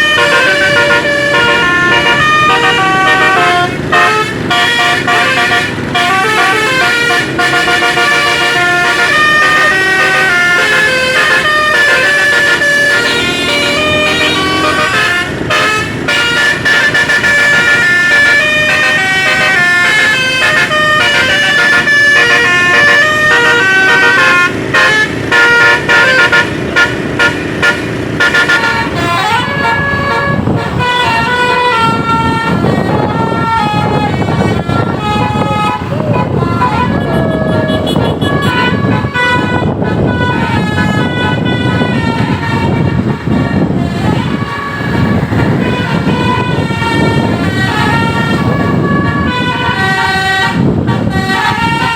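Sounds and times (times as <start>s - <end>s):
bus musical horn tune: 0.0s - 51.9s
short quick horn blasts: 0.2s - 42.8s.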